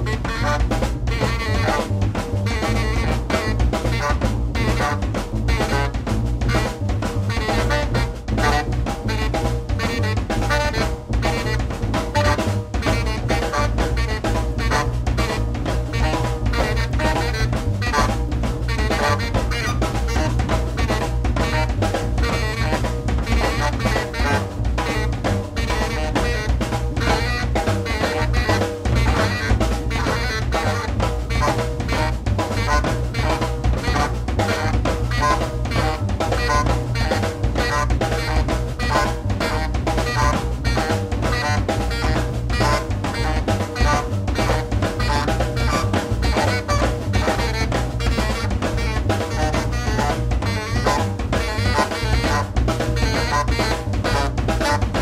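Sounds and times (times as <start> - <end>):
bass: 0.0 - 55.0
drum kit hits: 0.0 - 55.0
saxophone: 0.0 - 55.0.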